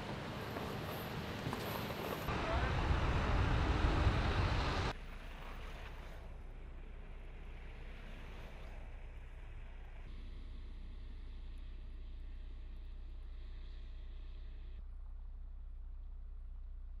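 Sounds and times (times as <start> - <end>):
vehicles rumbling slowly: 0.0 - 17.0
wind: 0.0 - 17.0.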